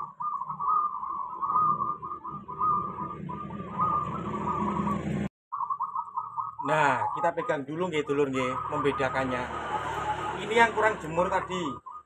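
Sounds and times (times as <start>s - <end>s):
dove purring call: 0.0s - 12.0s.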